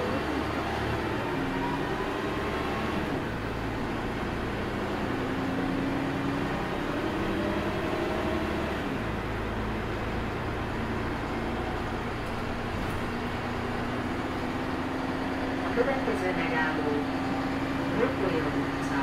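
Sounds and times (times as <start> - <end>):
bus engine and drivetrain drone: 0.0 - 19.0.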